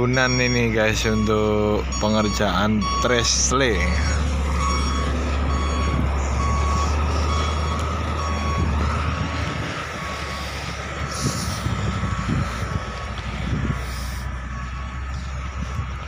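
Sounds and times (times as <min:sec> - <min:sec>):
diesel engines droning: 0:00.0 - 0:16.0
reversing alarm beeping: 0:00.0 - 0:16.0.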